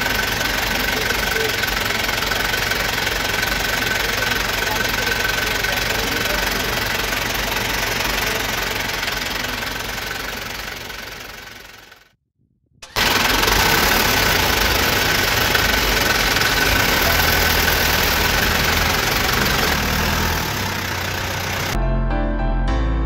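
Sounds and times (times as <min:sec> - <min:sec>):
vehicle engine running: 0:00.0 - 0:12.2, 0:12.8 - 0:21.8.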